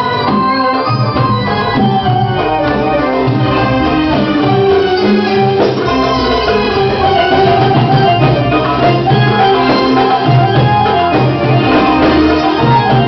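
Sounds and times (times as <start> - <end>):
hand drum rhythm: 0.0 - 13.0
organ-like keyboard melody: 0.0 - 13.0.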